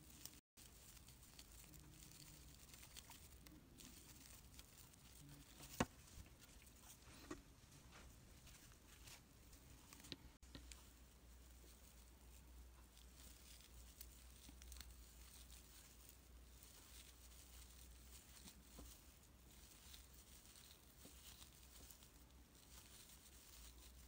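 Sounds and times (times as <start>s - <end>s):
faint rustling: 0.0s - 24.0s.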